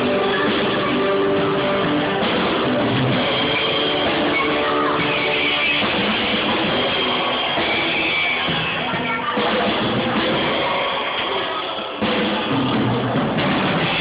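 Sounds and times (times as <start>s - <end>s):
drum kit: 0.0s - 14.0s.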